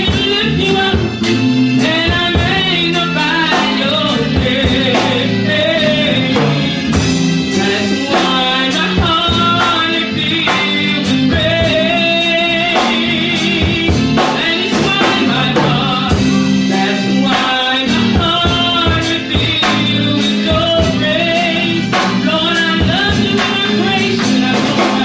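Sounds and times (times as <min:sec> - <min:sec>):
instrumental backing music: 0:00.0 - 0:25.0
woman singing into a microphone: 0:00.0 - 0:25.0.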